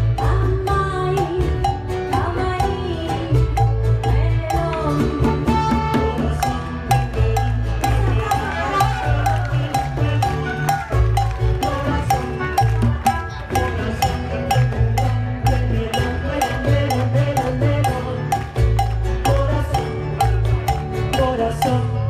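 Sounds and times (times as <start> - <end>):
deep bass line: 0.0 - 22.0
held melody notes: 0.0 - 22.0
strummed guitars: 0.0 - 22.0.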